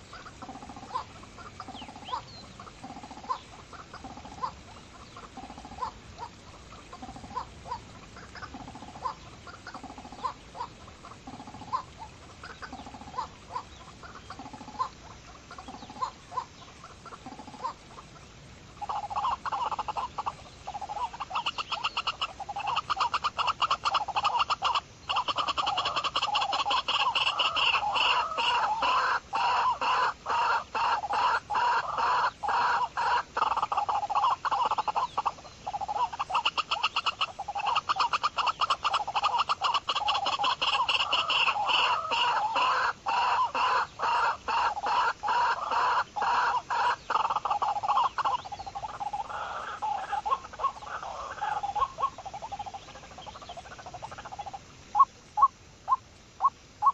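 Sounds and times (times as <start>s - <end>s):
pheasant clucking calls: 0.0s - 56.9s.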